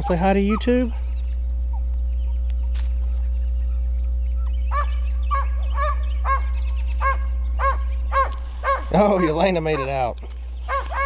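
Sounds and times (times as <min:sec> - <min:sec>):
animal high-pitched calls: 0:00.0 - 0:11.0
steady low rumble: 0:00.0 - 0:11.0.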